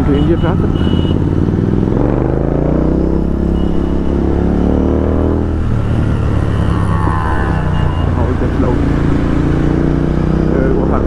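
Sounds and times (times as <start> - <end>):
motorcycle engine with loud exhaust: 0.0 - 11.0.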